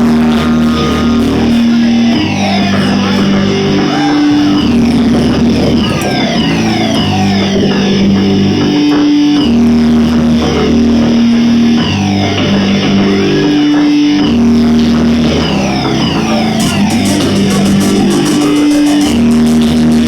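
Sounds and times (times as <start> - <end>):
bass notes: 0.0 - 20.0
electric guitars: 0.0 - 20.0.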